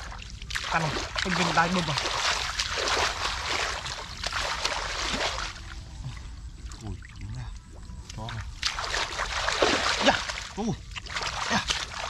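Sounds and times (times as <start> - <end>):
hands splashing in muddy water: 0.0 - 5.7, 8.0 - 12.0.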